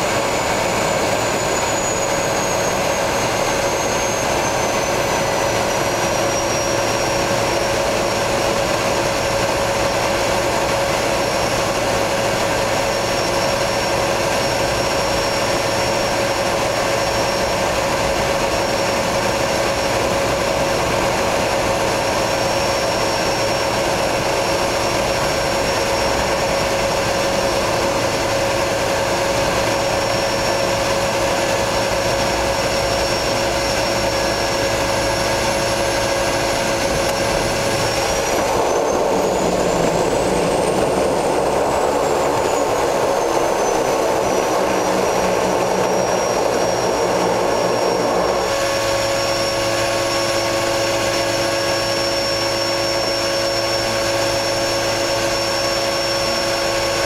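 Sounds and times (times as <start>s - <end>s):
rushing water drone: 0.0s - 57.0s
turboprop engine whine: 0.0s - 57.0s.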